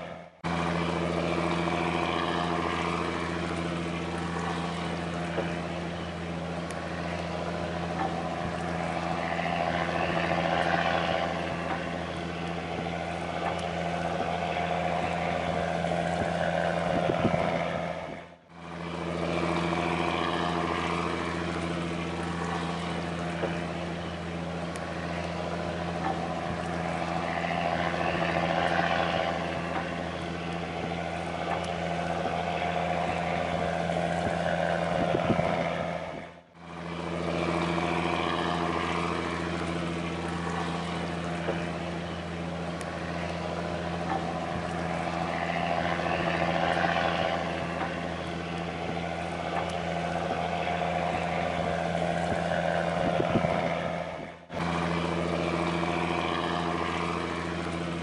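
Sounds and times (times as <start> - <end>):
boat diesel engine humming: 0.0 - 58.0.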